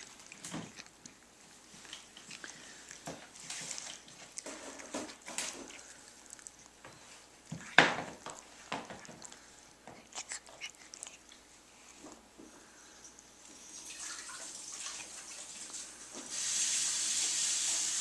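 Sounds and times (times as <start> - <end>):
cat chewing grass: 0.0 - 18.0.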